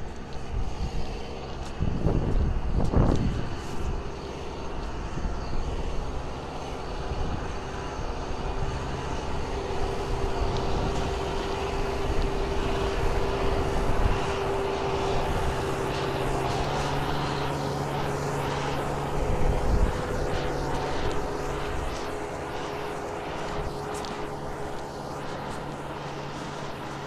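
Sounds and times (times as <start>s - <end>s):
steady whine: 0.0s - 27.0s
tractor diesel engine running: 0.0s - 27.0s.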